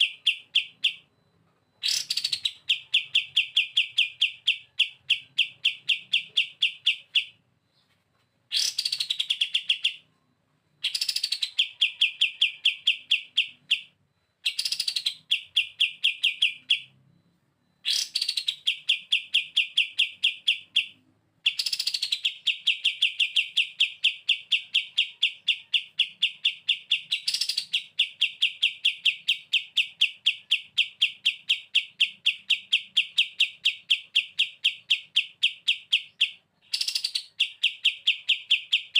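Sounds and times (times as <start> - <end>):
songbird rapid trill: 1.8 - 7.9, 8.5 - 10.1, 10.8 - 17.0, 17.8 - 38.9.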